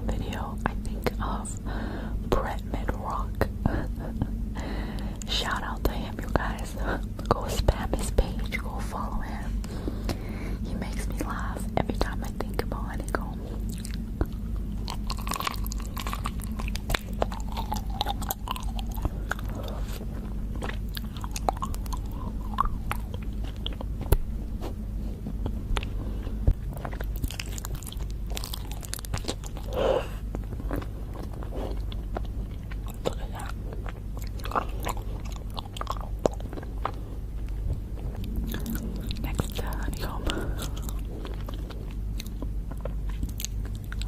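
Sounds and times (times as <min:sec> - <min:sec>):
chewing honeycomb: 0:02.6 - 0:44.0.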